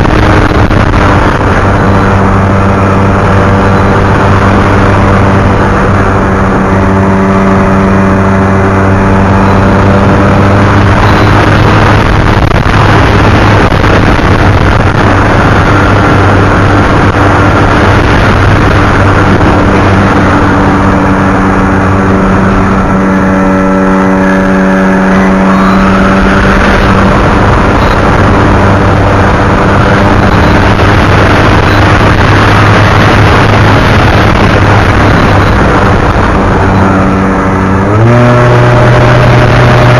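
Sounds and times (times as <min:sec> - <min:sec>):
loud rushing noise: 0:00.0 - 0:39.9.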